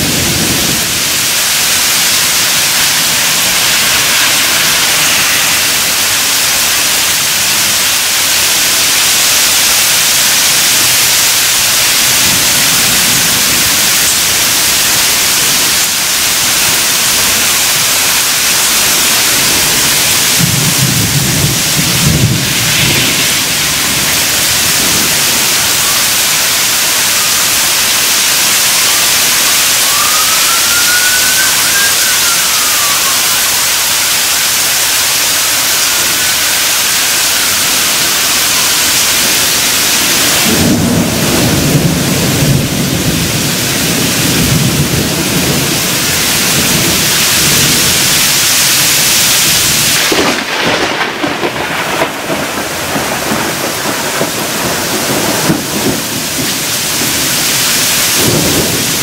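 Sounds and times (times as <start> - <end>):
heavy rain hissing: 0.0 - 59.0
thunder rolling: 0.0 - 59.0.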